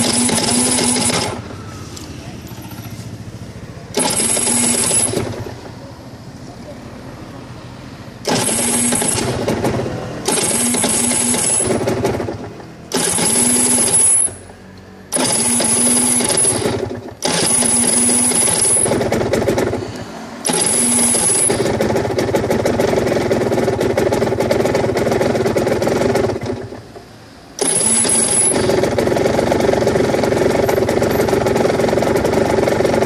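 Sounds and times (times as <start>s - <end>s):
motorcycle electric starter cranking: 0.0s - 5.9s, 8.2s - 33.0s.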